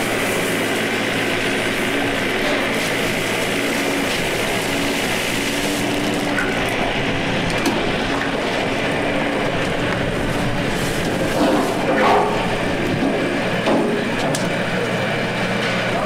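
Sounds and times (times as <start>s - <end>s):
hose spraying water: 0.0s - 14.2s.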